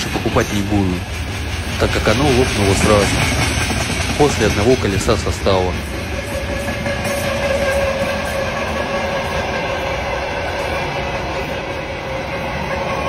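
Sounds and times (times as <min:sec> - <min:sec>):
steel wheels on rails: 0:00.0 - 0:13.0.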